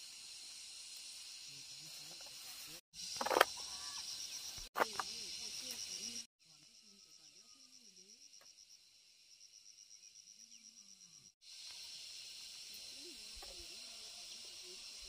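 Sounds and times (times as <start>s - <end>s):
high insect hiss: 0.0s - 15.0s
insects chirping in a trill: 0.0s - 15.0s.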